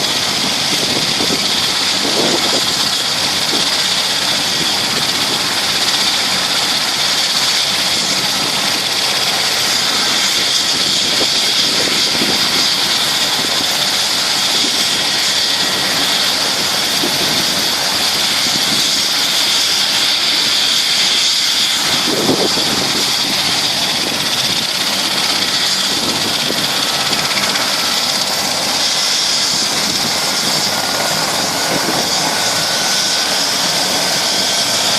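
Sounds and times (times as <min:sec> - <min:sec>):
helicopter engines high whine: 0:00.0 - 0:34.9.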